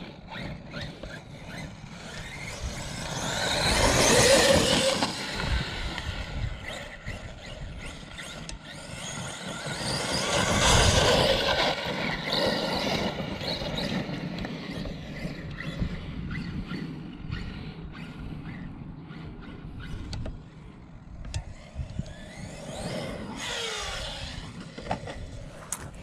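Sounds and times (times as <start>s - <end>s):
rc truck electric motor running: 0.0s - 26.0s.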